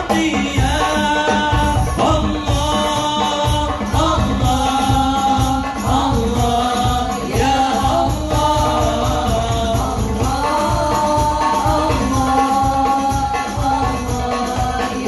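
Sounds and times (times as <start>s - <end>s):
hand percussion beat: 0.0s - 15.0s
voices singing devotional song: 0.0s - 15.0s.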